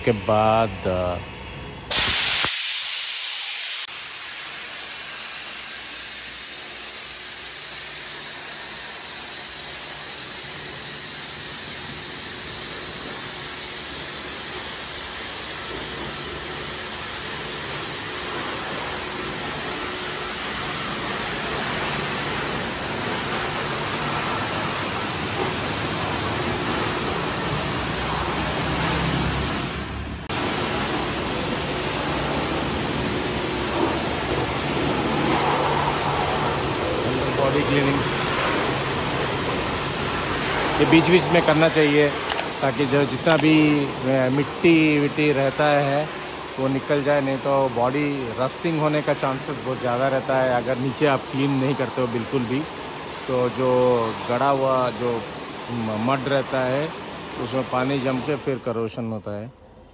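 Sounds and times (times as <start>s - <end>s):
pressure washer spraying water: 1.9s - 58.6s.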